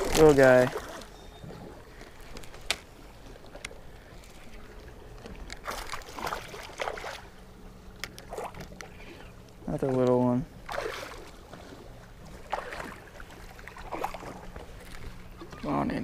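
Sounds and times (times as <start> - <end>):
water lapping against hull: 0.0 - 16.0.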